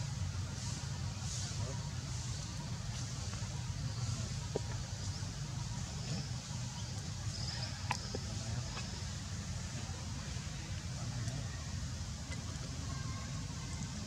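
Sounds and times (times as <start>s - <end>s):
faint high hiss: 0.0s - 14.0s
low outdoor rumble: 0.0s - 14.0s.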